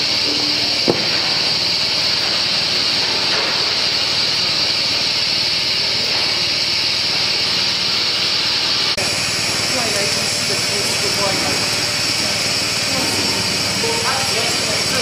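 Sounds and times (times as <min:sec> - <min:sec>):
machine running with high hiss: 0:00.0 - 0:15.0.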